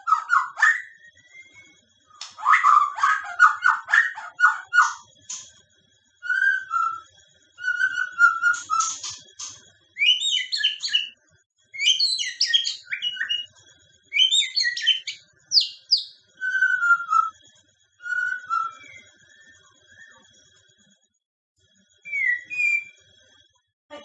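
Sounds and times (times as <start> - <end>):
bird singing whistles: 0.0 - 5.5, 6.2 - 13.5, 14.1 - 17.4, 18.0 - 20.4, 22.0 - 23.0.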